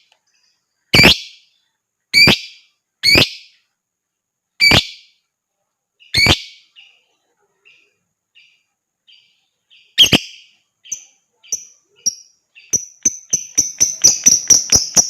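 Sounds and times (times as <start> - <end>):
lovebird chirps: 0.0 - 3.7, 4.6 - 5.3, 6.0 - 15.0.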